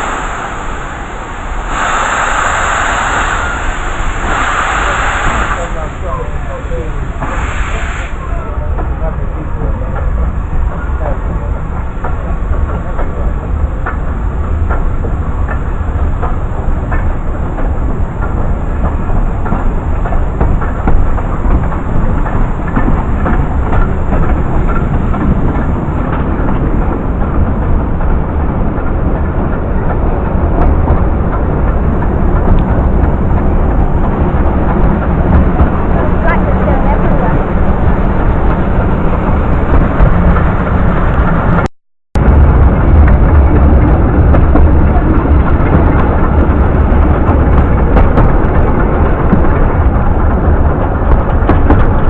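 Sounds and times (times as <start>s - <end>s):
railway carriage rumbling: 0.0s - 52.0s
wheels clicking over rails: 8.2s - 52.0s.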